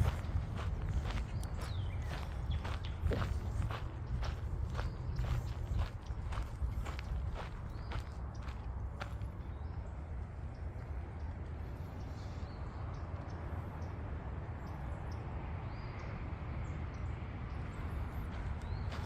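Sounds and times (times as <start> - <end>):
steady low rumble: 0.0 - 15.2, 17.3 - 19.0.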